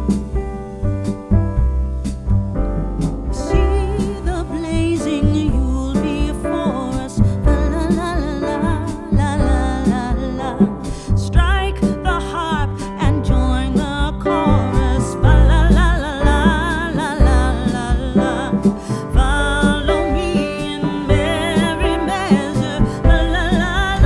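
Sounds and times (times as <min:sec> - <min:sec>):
piano chords with steady beat: 0:00.0 - 0:24.0
person singing: 0:03.2 - 0:24.0.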